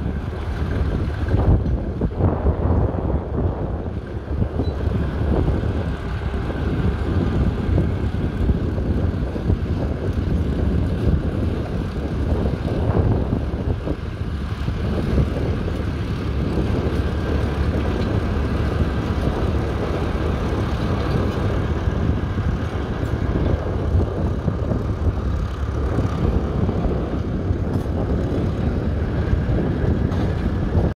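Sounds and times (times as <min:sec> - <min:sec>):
tractor engine under load: 0:00.0 - 0:30.9.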